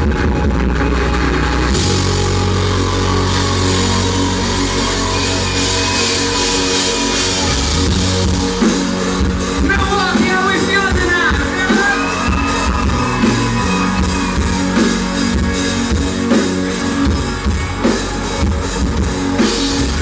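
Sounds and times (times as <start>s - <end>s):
distorted country-rock band playing: 0.0s - 20.0s.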